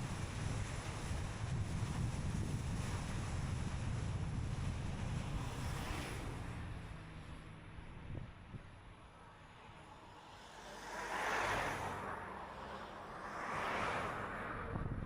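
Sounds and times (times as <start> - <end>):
car road and tyre noise: 0.0 - 15.0
vehicles passing close by: 0.0 - 15.0.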